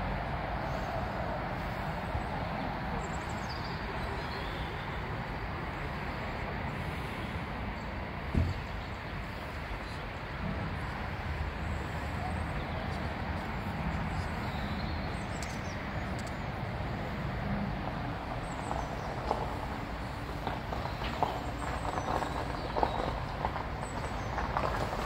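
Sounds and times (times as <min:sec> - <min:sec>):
outdoor rumble and hiss: 0:00.0 - 0:25.0.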